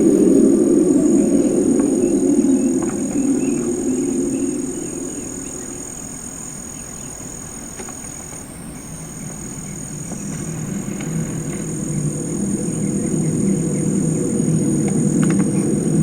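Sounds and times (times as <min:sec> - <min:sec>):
deep rumbling drone: 0:00.0 - 0:07.8, 0:08.8 - 0:16.0
night insects chirring: 0:00.0 - 0:16.0.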